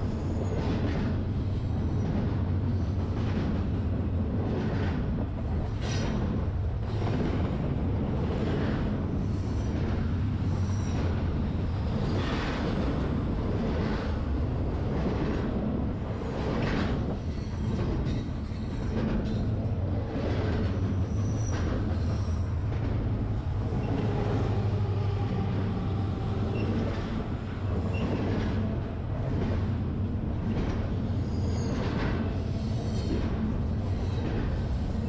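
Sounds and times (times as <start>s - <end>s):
diesel locomotive rumble: 0.0s - 35.0s
train wheel and car noise: 0.0s - 35.0s.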